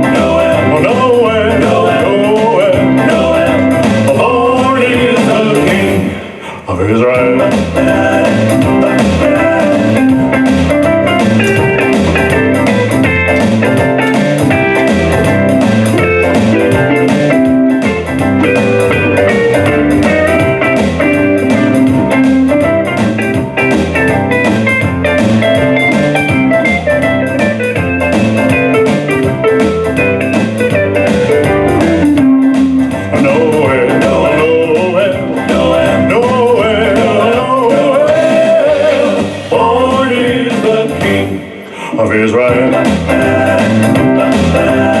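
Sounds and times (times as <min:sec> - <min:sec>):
rock and roll band playing: 0:00.0 - 0:45.0.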